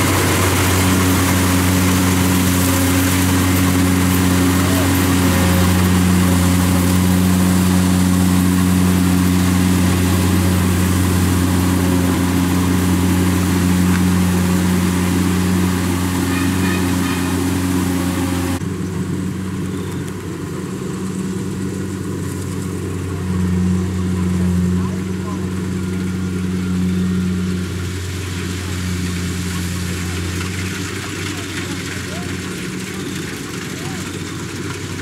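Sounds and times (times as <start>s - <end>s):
harvester engine running: 0.0s - 35.0s.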